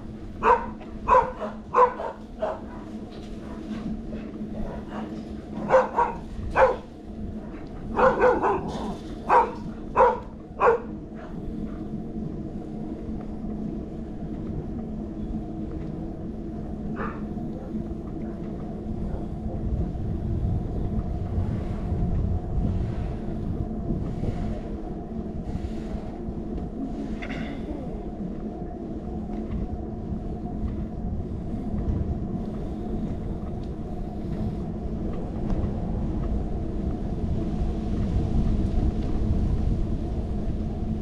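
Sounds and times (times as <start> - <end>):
road vibration rumble: 0.0 - 41.0
wind buffeting microphone: 0.0 - 41.0.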